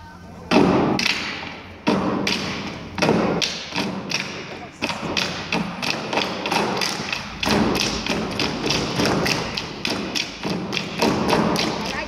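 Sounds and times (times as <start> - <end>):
people clapping in unison: 2.2 - 12.0.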